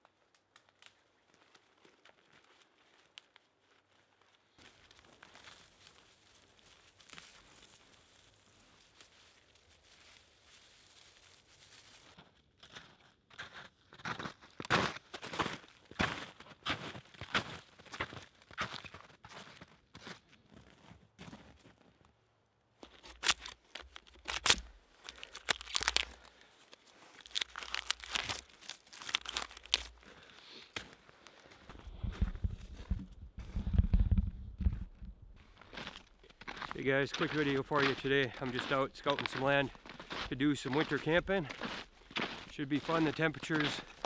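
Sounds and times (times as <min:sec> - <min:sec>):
footsteps crunching snow: 0:03.7 - 0:21.8, 0:22.8 - 0:44.0.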